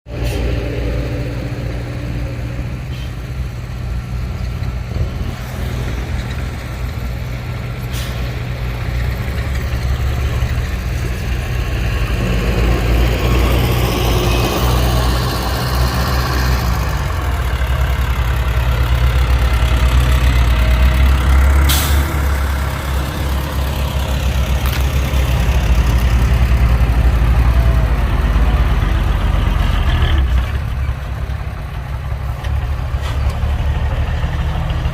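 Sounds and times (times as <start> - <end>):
diesel engines rumbling: 0.0 - 34.9.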